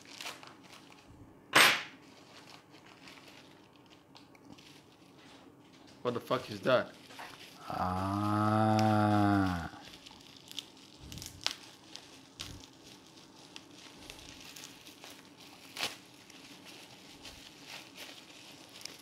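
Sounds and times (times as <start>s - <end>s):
bubble wrap crackles: 0.0s - 1.2s, 1.8s - 19.0s
bubble wrap crinkling: 0.0s - 1.2s, 1.8s - 19.0s.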